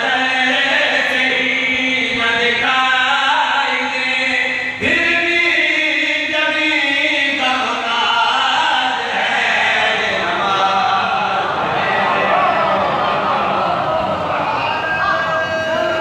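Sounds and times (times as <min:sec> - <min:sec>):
men chanting into a microphone: 0:00.0 - 0:16.0.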